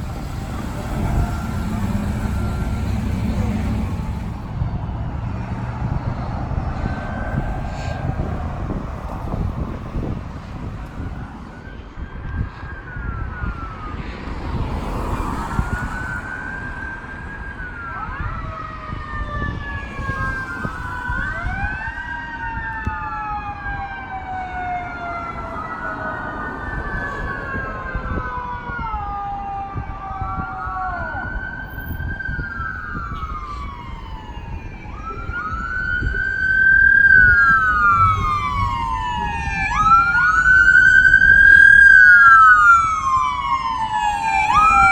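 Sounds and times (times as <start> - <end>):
emergency sirens wailing: 0.0 - 44.9
road rumble: 0.0 - 44.9.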